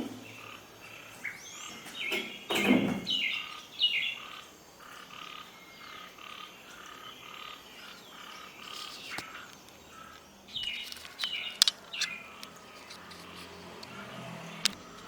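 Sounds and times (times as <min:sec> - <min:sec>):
sharp bird chirps: 0:00.2 - 0:15.0.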